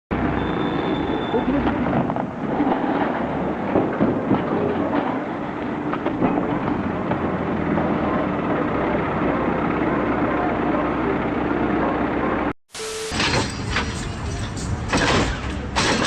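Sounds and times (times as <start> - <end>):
heavy machine running: 0.1 - 16.0.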